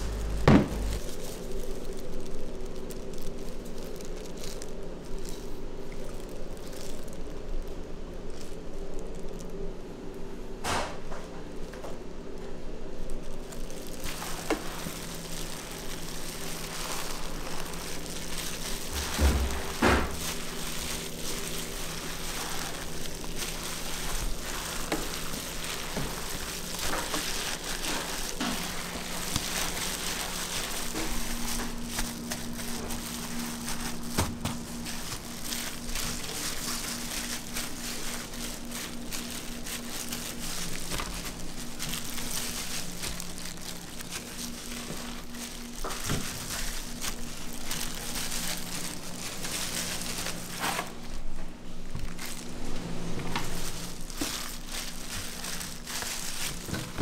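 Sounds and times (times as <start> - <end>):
wet squish of minced meat mixing: 0.0 - 10.3, 12.8 - 52.5, 53.4 - 57.0
steady low hum: 0.0 - 57.0.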